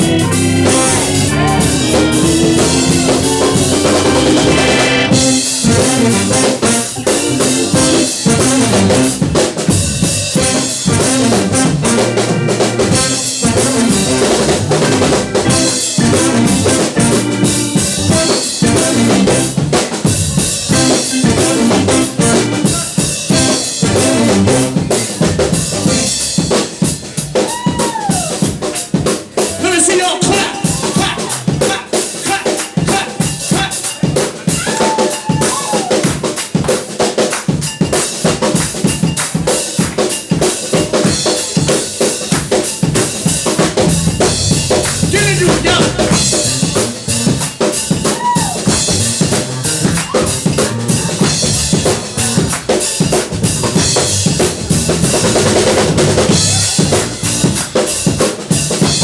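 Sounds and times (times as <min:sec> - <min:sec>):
drum kit: 0:00.0 - 0:59.0
funk band playing: 0:00.0 - 0:59.0.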